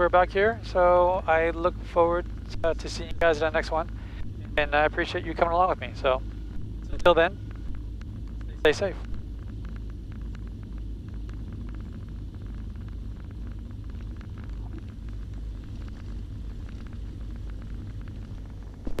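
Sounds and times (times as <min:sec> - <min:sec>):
aircraft engines idling: 0:00.0 - 0:19.0.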